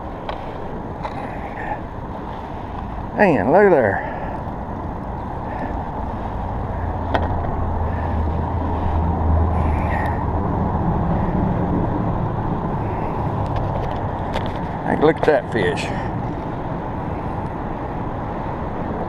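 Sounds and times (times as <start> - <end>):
traffic rumble on bridge: 0.0 - 19.0
wind: 0.0 - 19.0.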